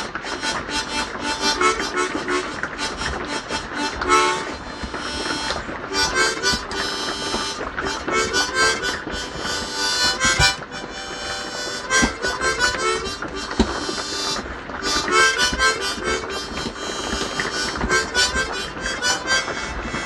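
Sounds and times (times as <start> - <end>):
harmonica playing: 0.0 - 20.0.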